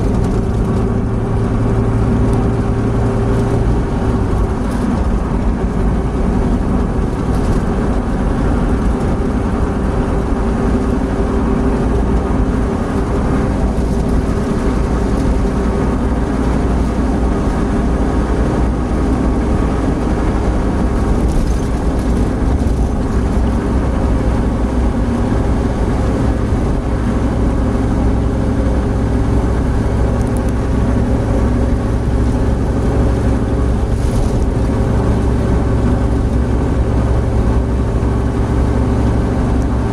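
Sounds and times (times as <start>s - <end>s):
car cabin road drone: 0.0s - 39.9s.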